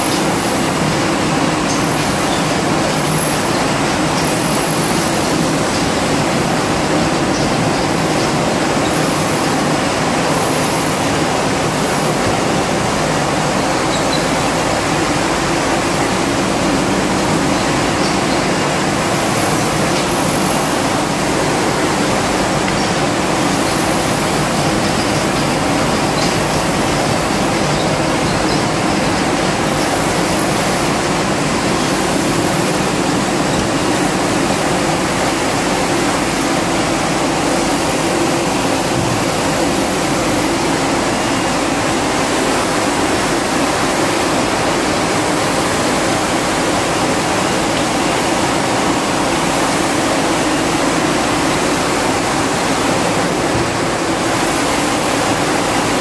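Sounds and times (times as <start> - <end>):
loud rushing machine noise: 0.0 - 56.0.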